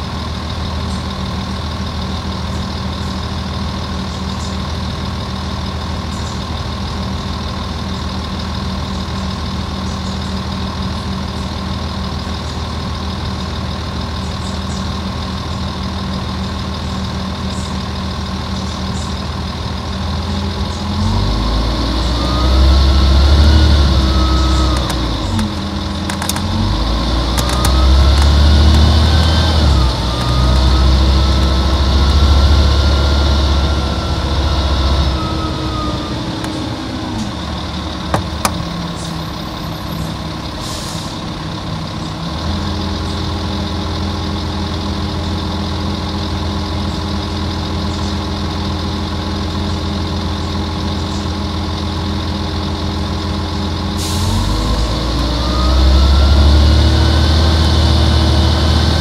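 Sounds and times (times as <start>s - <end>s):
bus diesel engine pulling hard: 0.0s - 59.0s.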